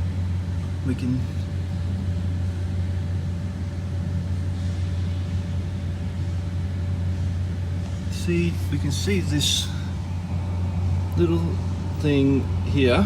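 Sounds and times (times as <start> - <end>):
faint high whine: 0.0 - 13.0
low machine hum: 0.0 - 13.0.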